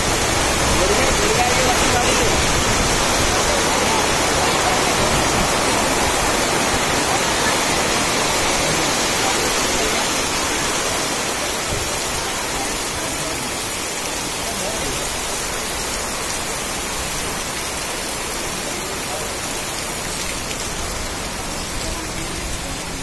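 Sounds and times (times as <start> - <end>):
heavy rain hissing on road: 0.0 - 23.0.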